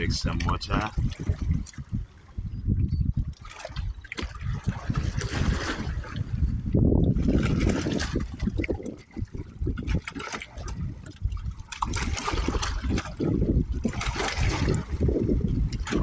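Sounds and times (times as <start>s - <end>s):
water trickling and lapping: 0.0s - 16.0s.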